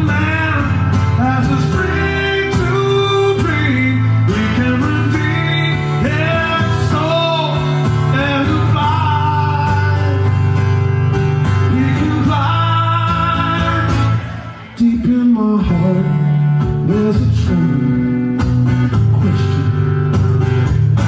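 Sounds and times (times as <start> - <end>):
man singing: 0.0 - 21.0
strummed acoustic guitar: 0.0 - 21.0.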